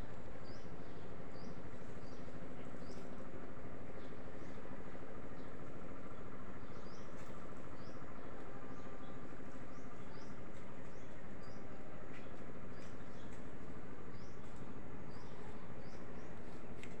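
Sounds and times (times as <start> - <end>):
bird chirping: 0.0 - 3.2, 3.9 - 16.6
outdoor background hiss: 0.0 - 17.0.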